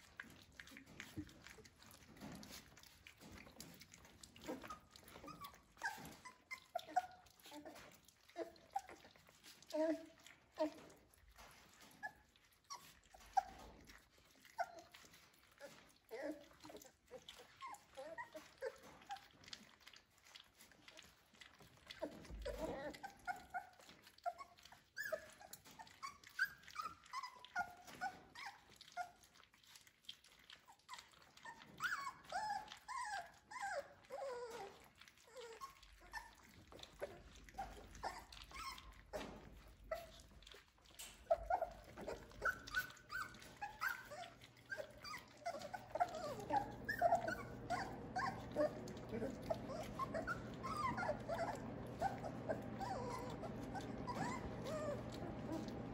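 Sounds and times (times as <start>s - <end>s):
puppies eating from steel pan: 0.0s - 55.9s
puppies whimpering and squeaking: 0.0s - 55.9s.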